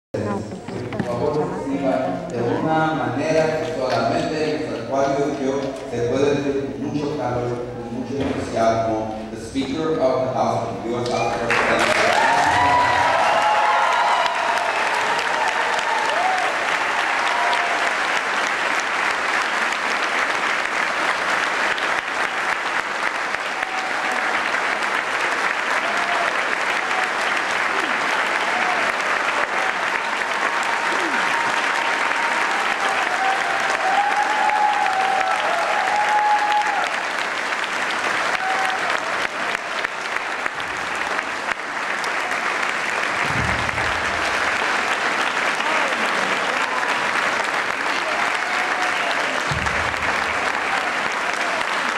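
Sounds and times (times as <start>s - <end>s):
crowd applauding: 0.2s - 51.9s.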